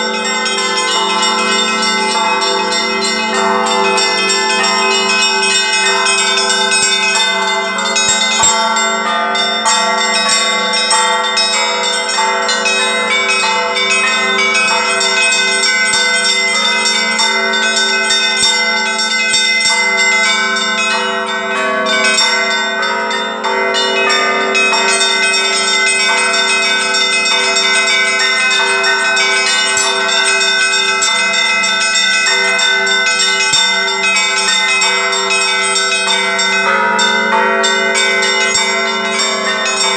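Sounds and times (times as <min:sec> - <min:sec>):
middle church bell: 0:00.0 - 0:39.9
small high bells: 0:00.0 - 0:39.9.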